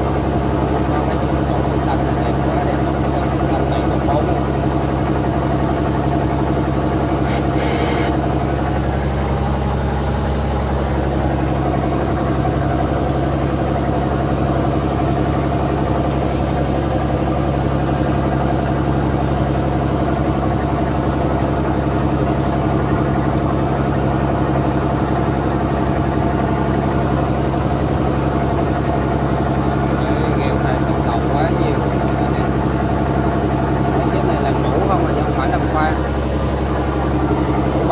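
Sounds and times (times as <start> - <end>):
boat diesel engine droning: 0.0 - 37.9.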